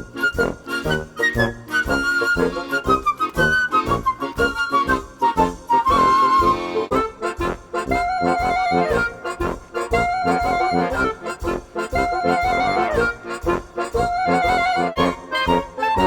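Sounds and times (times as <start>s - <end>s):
upbeat accordion tune: 0.0s - 16.0s.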